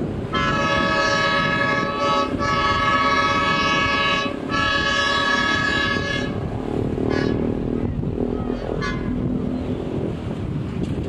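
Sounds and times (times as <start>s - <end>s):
diesel locomotive horn blasts: 0.2s - 10.0s.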